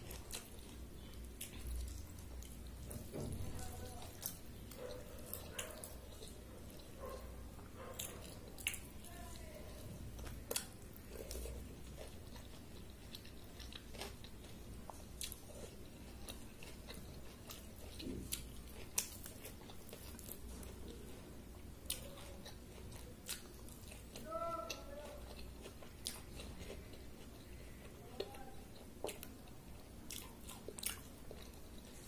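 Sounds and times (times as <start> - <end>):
person chewing: 0.0 - 32.0.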